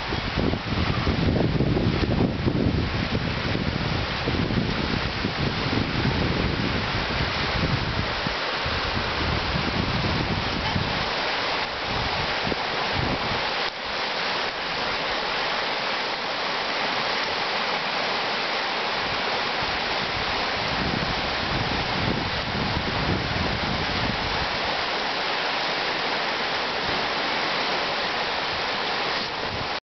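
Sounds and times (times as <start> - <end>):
water rushing over rapids: 0.0 - 29.8.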